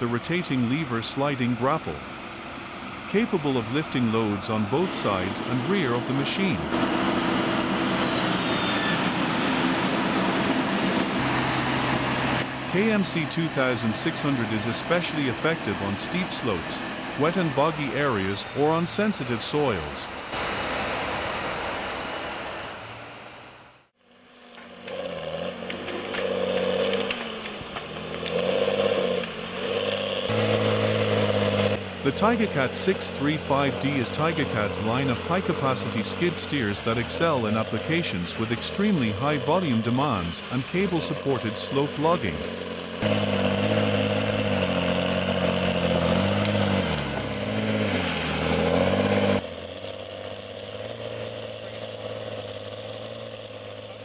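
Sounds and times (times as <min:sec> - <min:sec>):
heavy machine engine revving: 0:00.0 - 0:23.2, 0:24.2 - 0:54.0.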